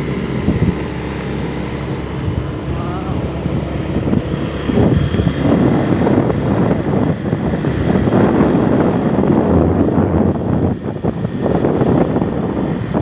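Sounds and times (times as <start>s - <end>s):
vehicle running: 0.0s - 13.0s
wind on microphone: 0.0s - 13.0s.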